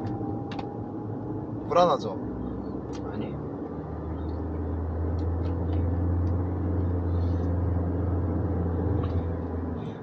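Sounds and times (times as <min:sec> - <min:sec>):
car driving heard from cabin: 0:00.0 - 0:10.0.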